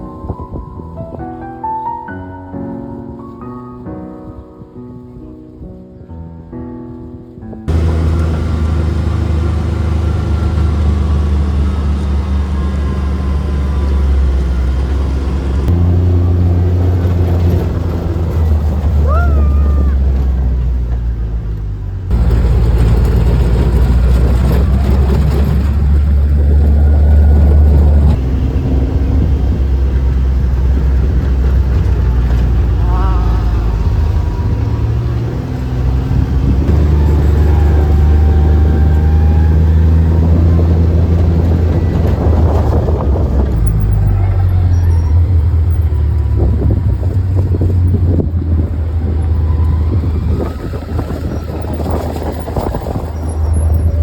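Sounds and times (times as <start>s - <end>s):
vehicle rumble: 7.3s - 54.0s.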